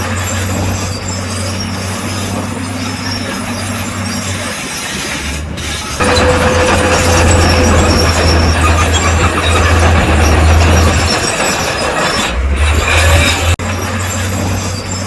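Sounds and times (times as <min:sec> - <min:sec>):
bulldozer diesel engine droning: 0:00.0 - 0:15.0
steel tracks clattering and squealing: 0:00.0 - 0:15.0
thin high squeak: 0:00.0 - 0:15.0.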